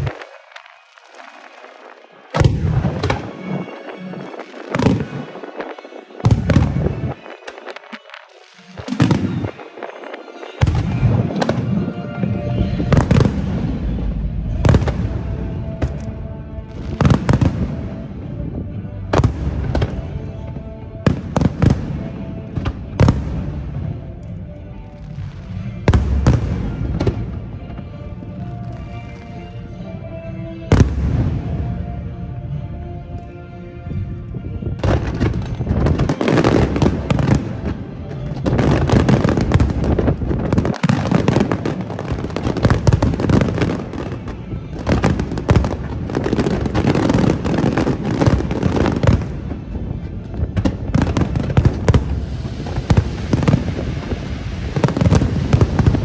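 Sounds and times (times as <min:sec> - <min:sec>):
music playing: 0:00.0 - 0:56.0.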